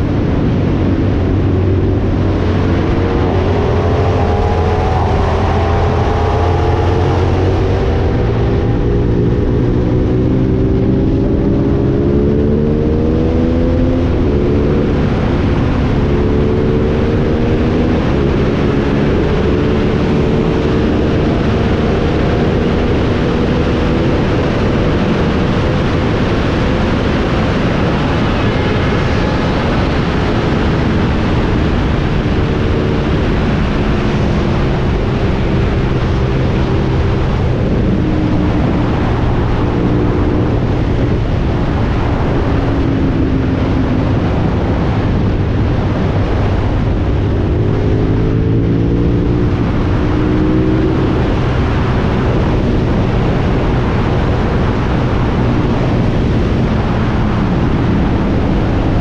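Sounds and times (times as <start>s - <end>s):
motorcycle engine drone: 0.0s - 59.0s
wind rush over microphone: 0.0s - 59.0s.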